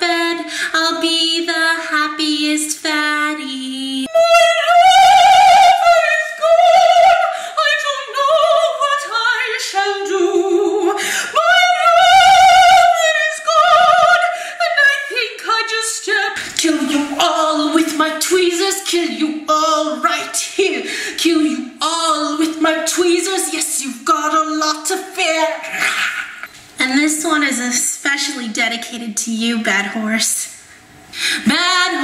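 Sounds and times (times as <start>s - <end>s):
woman singing operatically: 0.0s - 25.9s, 31.4s - 32.0s.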